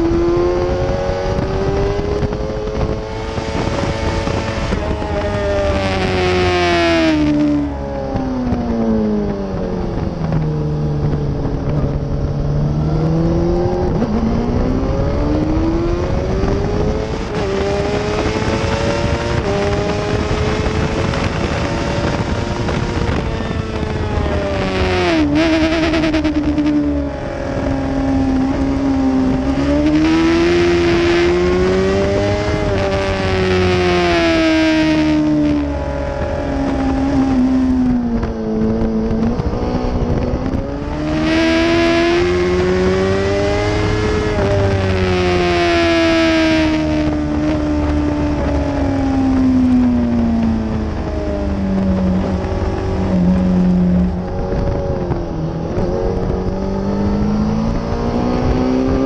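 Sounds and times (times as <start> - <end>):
motorcycle engine at racing speed: 0.0 - 59.0
wind rush: 0.0 - 59.0.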